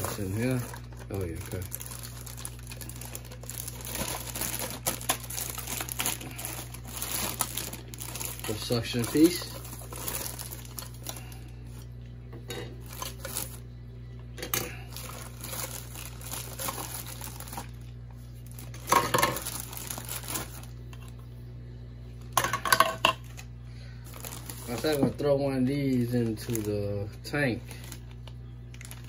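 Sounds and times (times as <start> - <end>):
plastic bag crinkling: 0.0 - 11.9, 12.8 - 13.6, 14.7 - 21.2, 22.7 - 29.0.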